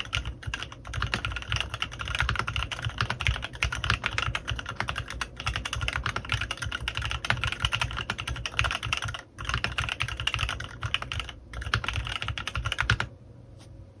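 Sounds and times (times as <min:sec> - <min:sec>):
mechanical keyboard typing: 0:00.0 - 0:13.1.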